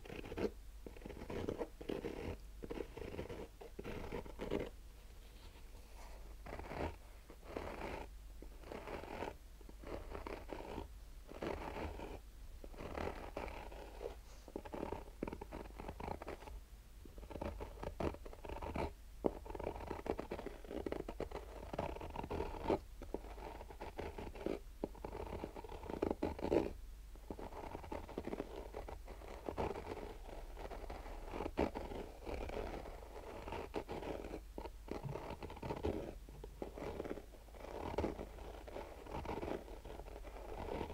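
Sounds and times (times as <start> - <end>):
fingernails scratching fabric: 0.0 - 40.9.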